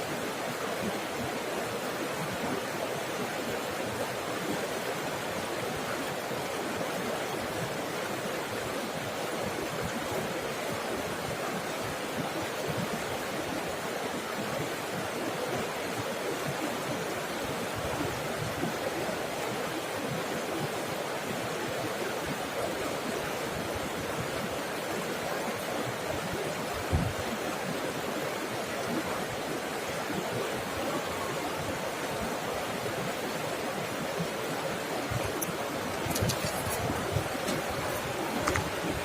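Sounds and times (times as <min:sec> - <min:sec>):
water babbling over rocks: 0:00.0 - 0:39.0.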